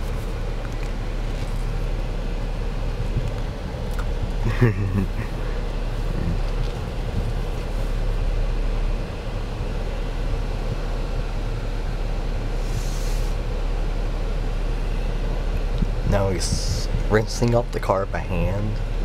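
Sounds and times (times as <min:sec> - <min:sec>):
car idling: 0:00.0 - 0:19.0.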